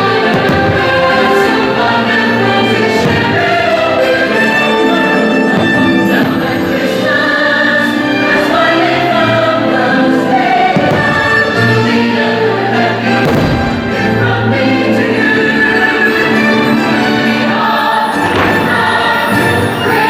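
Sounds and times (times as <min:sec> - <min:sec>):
choir singing sustained chords: 0:00.0 - 0:20.0
orchestral music: 0:00.0 - 0:20.0.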